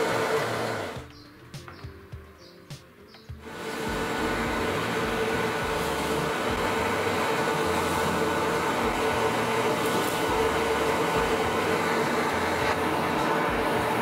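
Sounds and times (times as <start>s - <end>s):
drill press boring wood: 0.0s - 1.1s, 3.4s - 14.0s
dust extraction vacuum: 0.0s - 1.2s, 3.4s - 14.0s.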